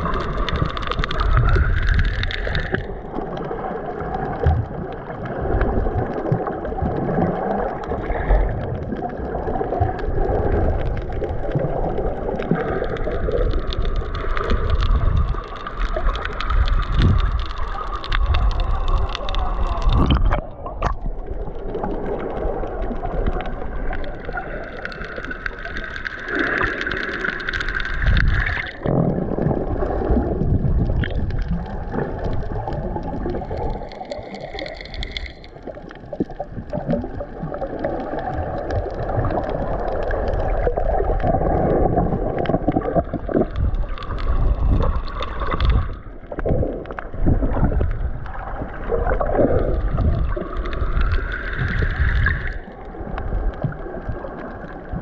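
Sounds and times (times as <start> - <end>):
muffled rush of water: 0.0 - 55.0.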